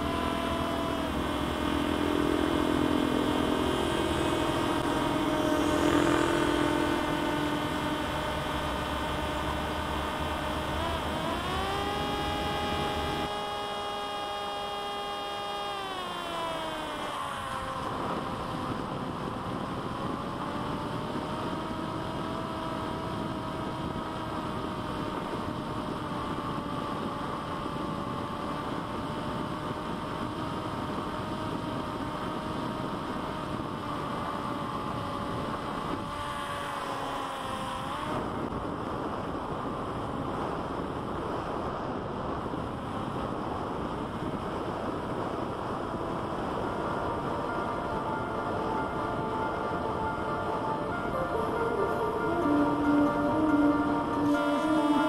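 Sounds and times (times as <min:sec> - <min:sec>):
electric motor whining: 0:00.0 - 0:38.6, 0:44.0 - 0:55.0.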